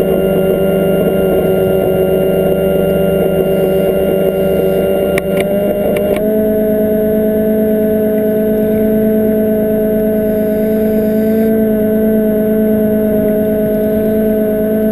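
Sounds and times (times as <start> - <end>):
underwater scooter motor droning: 0.0 - 14.9.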